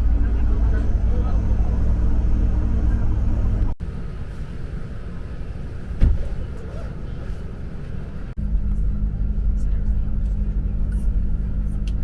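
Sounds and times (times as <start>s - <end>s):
moving vehicle rumble: 0.0s - 12.0s.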